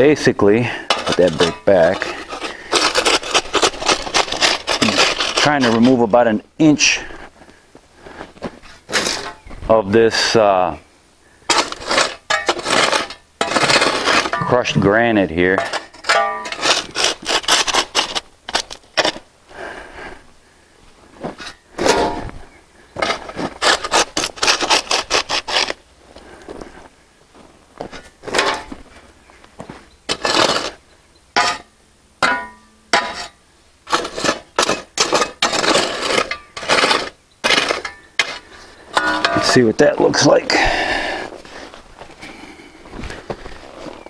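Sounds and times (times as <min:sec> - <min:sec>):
shovel scraping gravel: 0:00.0 - 0:07.2, 0:08.1 - 0:09.5, 0:11.4 - 0:19.3, 0:21.0 - 0:22.4, 0:23.0 - 0:26.7, 0:27.4 - 0:44.0.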